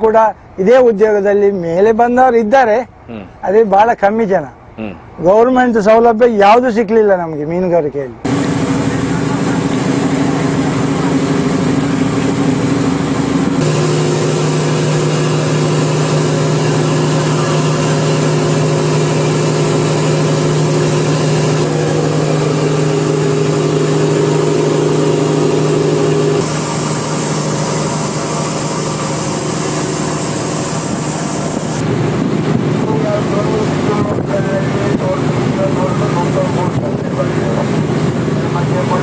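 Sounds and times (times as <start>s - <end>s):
boat engine droning: 3.0s - 3.4s, 4.8s - 5.2s, 8.2s - 39.0s.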